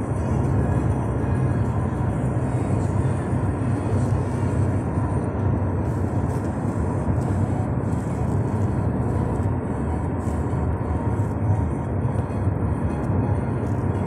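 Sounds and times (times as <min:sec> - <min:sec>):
car interior road noise: 0:00.0 - 0:14.0.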